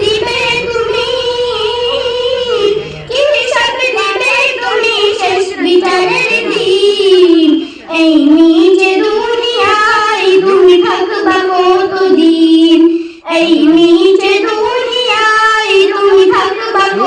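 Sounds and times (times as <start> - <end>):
high-pitched voice singing: 0.0 - 17.0.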